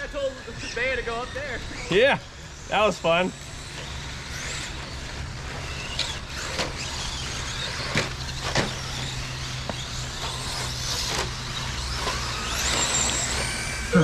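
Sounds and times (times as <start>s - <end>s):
rc truck motor whine: 0.0s - 14.0s.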